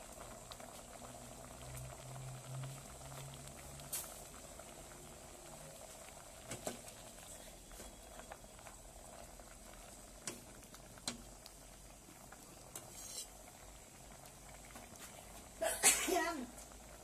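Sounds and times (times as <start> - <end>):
curry bubbling in a pot: 0.0 - 17.0.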